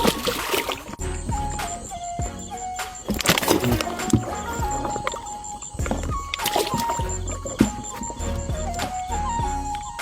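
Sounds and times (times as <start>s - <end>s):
simple melodic background music: 0.0s - 10.0s
water splashing: 0.0s - 10.0s.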